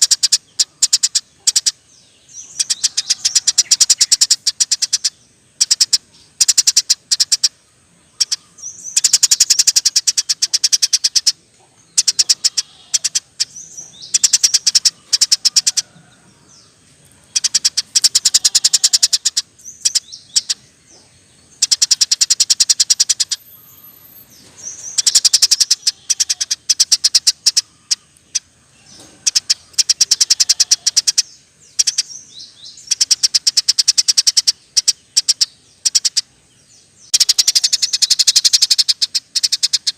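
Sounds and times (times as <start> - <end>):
sparrow chirping in trills: 0.0 - 39.9.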